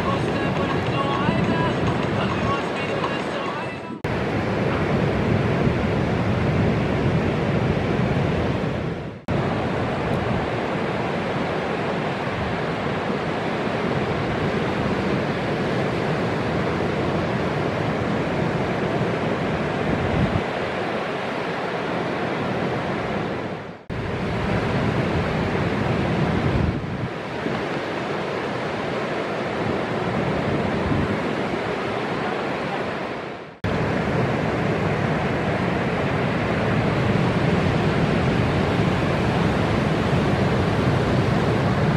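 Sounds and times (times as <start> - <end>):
whitewater rushing: 0.0 - 4.9, 9.3 - 41.9
waves breaking: 0.0 - 41.9.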